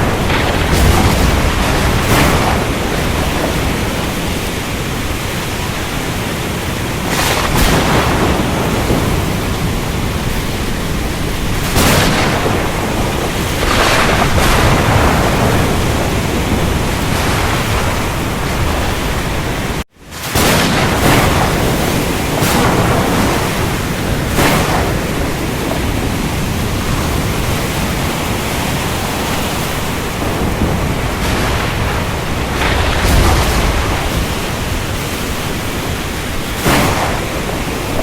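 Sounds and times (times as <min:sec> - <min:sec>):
rain: 0:00.0 - 0:38.0
surf roaring: 0:00.0 - 0:38.0
waves crashing: 0:00.0 - 0:38.0
wind: 0:00.0 - 0:38.0.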